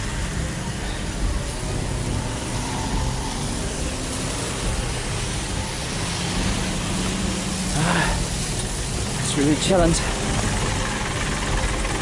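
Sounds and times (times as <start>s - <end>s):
even hiss: 0.0s - 12.0s
vehicle engines idling: 0.0s - 12.0s.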